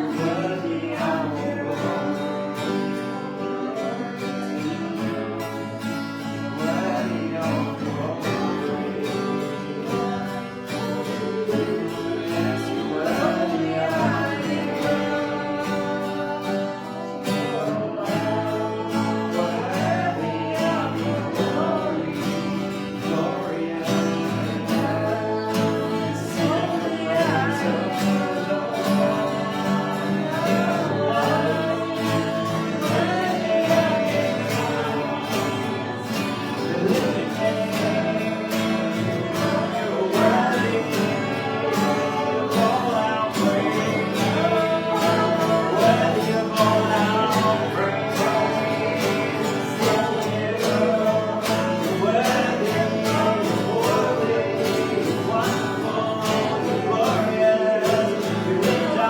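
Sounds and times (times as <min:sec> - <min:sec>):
acoustic guitar accompaniment: 0:00.0 - 0:59.0
voices singing: 0:00.0 - 0:59.0.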